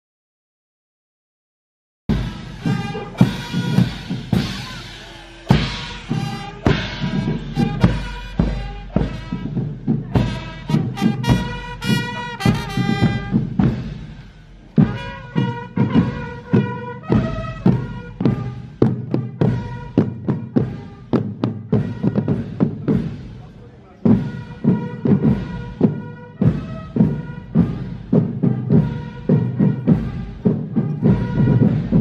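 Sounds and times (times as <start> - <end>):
marching drums beating: 2.1 - 32.0
trumpets playing march tune: 2.1 - 32.0.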